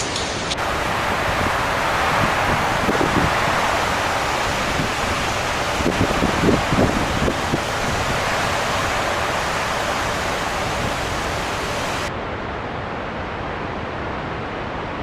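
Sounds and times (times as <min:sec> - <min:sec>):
heavy storm rain: 0:00.0 - 0:12.1.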